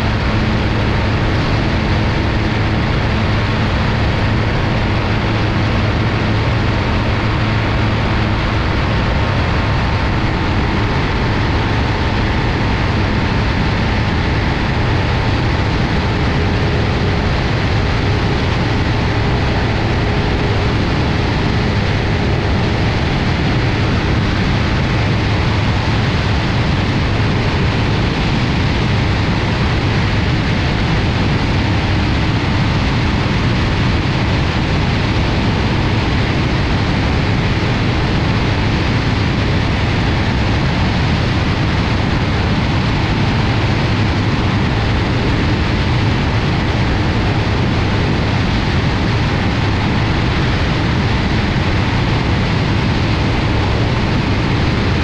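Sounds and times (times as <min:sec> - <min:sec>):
propeller engine drone: 0:00.0 - 0:55.0
wind rushing: 0:00.0 - 0:55.0.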